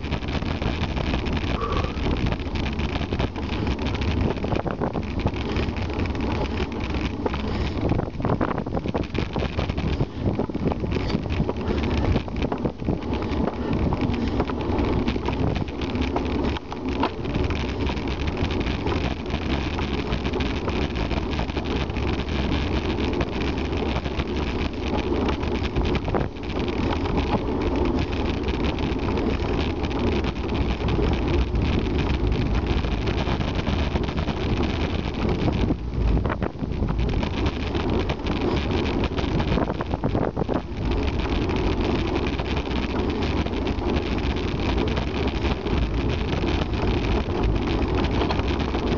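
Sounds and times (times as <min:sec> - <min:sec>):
bicycle tyres on tarmac: 0:00.0 - 0:48.9
wind buffeting microphone: 0:00.0 - 0:48.9.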